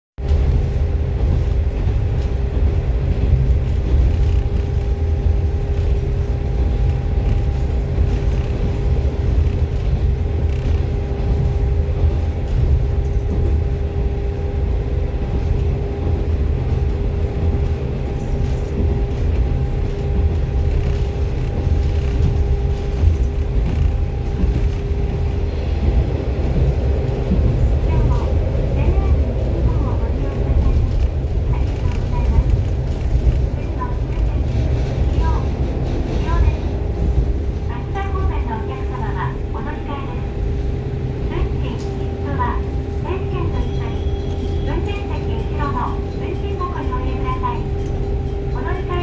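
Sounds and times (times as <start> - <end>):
train low rumble: 0.1 - 49.0
train steady whine: 0.2 - 49.0.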